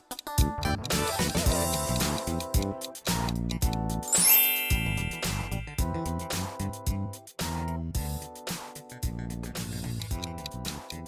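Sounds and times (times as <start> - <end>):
music with guitar and beat: 0.0 - 9.2.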